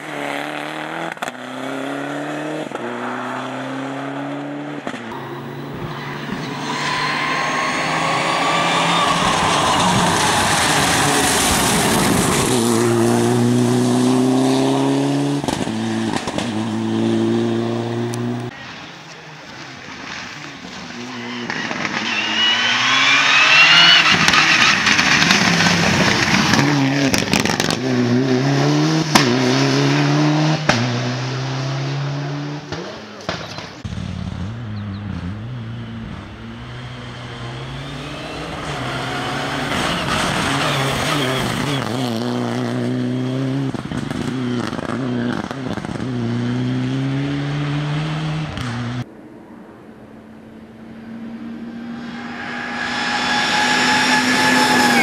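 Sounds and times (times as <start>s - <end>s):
rally car engine revving: 0.0s - 18.8s, 19.5s - 49.1s, 50.9s - 55.0s.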